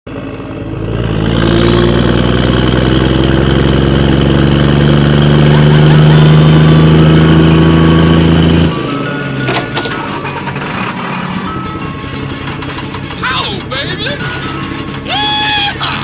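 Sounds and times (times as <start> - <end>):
vehicle engine humming: 0.1 - 16.0.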